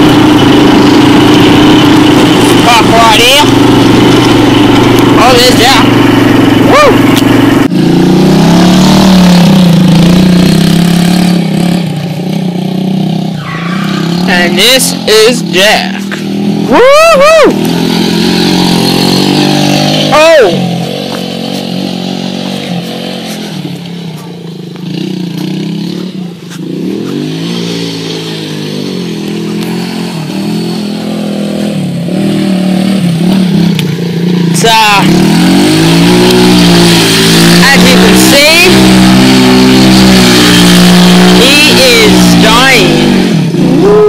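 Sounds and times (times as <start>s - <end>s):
small engine running steadily: 0.0s - 44.0s.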